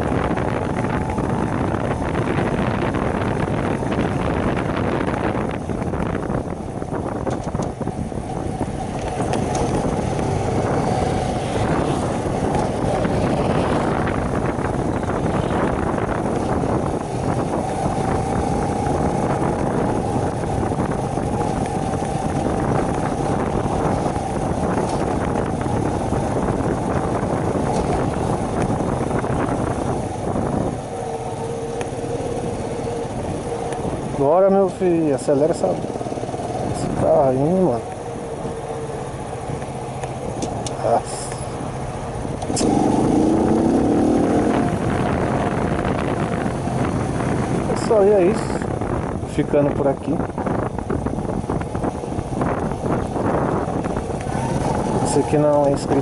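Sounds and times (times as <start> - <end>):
moped engine running: 0.0 - 56.0
wind buffeting on microphone: 0.0 - 56.0.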